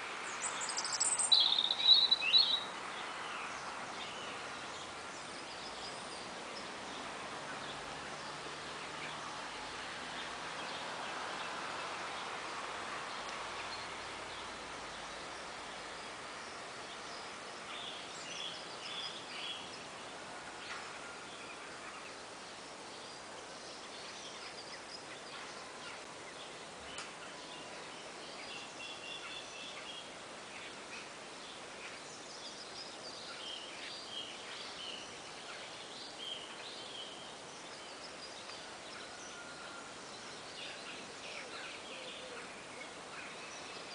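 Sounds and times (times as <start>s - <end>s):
outdoor background noise: 0.0s - 43.9s
songbirds singing: 0.0s - 43.9s.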